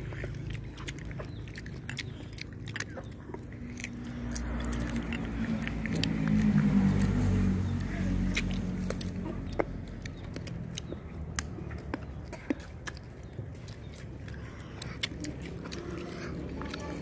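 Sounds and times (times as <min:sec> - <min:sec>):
fruit crunching: 0:00.0 - 0:17.0
wet mouth clicks: 0:00.0 - 0:17.0.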